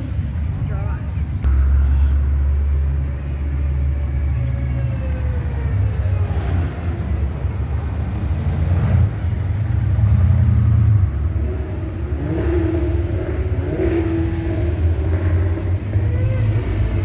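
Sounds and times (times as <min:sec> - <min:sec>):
car engine accelerating: 0:01.4 - 0:17.0
cars driving past: 0:01.4 - 0:17.0.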